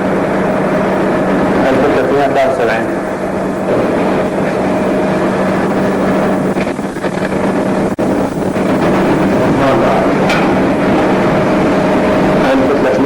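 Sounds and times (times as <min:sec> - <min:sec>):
loud mechanical hum: 0:00.0 - 0:13.0
rushing noise: 0:00.0 - 0:13.0.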